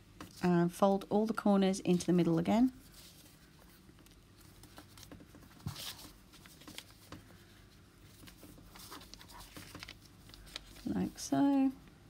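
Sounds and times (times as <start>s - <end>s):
paper rustling and folding: 0.2s - 11.8s.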